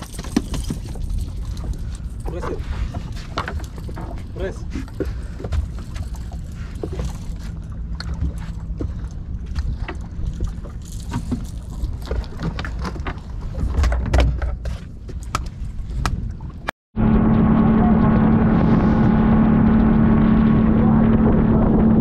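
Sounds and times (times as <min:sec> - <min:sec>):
boat engine humming: 0:00.0 - 0:13.8, 0:14.8 - 0:22.0.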